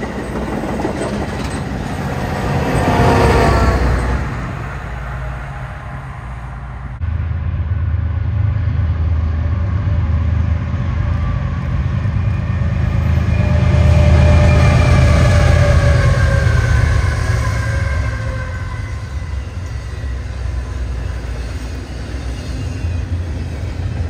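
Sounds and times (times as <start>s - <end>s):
diesel locomotive engine drone: 0.0s - 24.0s
passing train rumble: 0.0s - 24.0s.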